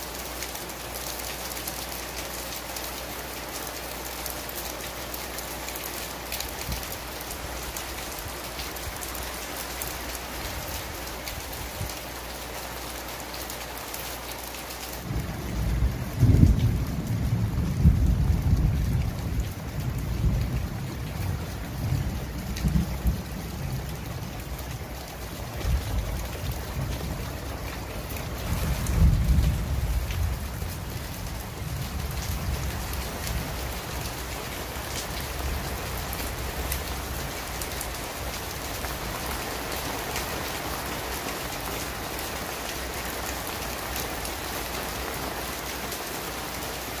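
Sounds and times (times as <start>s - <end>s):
heavy rain on leaves: 0.0s - 47.0s.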